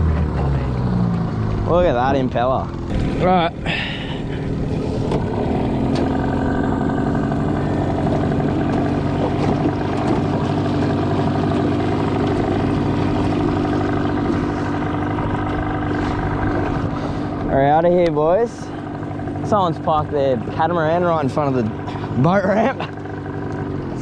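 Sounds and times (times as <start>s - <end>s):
outboard motor idling: 0.0s - 24.0s.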